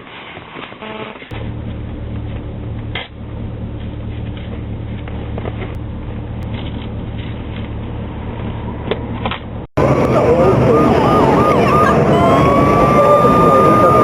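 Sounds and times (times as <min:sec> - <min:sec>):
car engine and road drone: 0:01.3 - 0:14.0.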